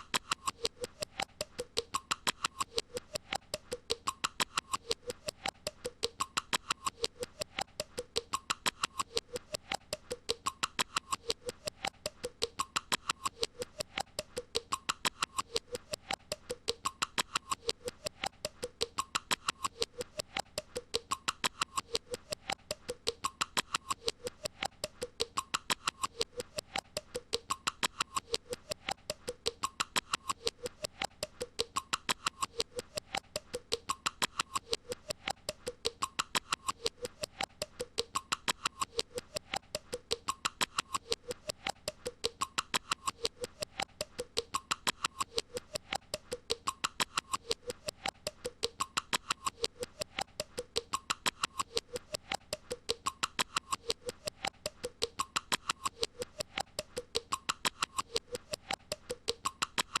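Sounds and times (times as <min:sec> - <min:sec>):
rapid mechanical clicks: 0:00.0 - 1:00.0.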